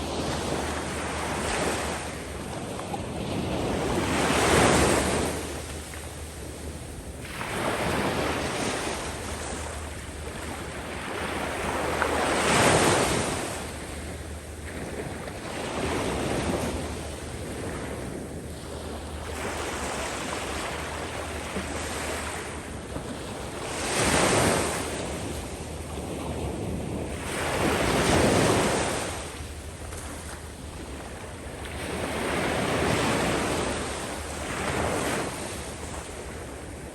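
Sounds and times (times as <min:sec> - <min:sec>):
waves breaking on a sandy beach: 0:00.0 - 0:36.9.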